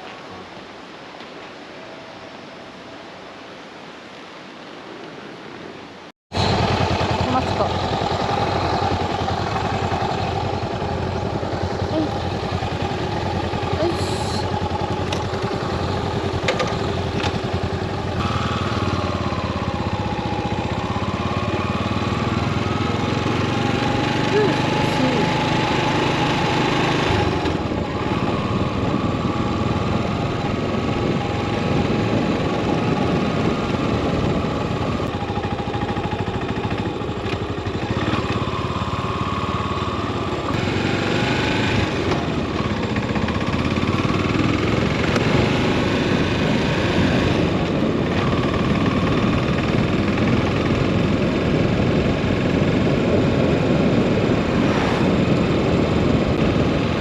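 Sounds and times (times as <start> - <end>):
motorcycle engine running: 6.3 - 57.0.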